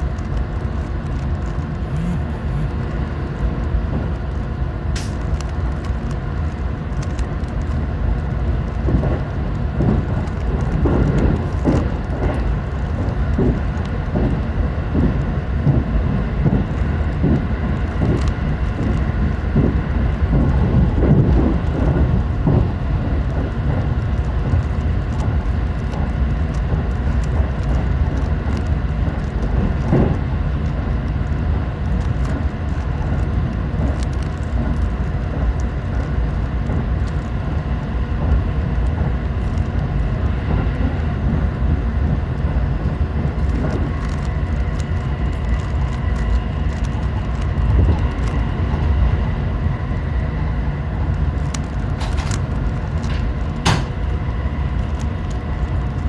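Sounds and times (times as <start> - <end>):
train cabin rumble: 0.0 - 56.0.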